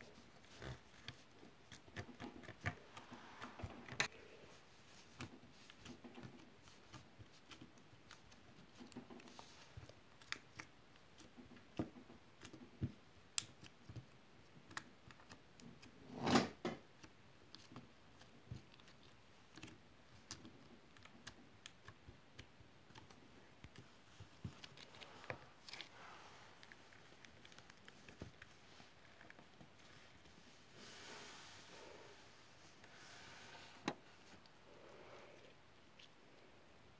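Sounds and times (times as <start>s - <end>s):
slime squish: 0.1s - 16.0s, 16.8s - 31.4s.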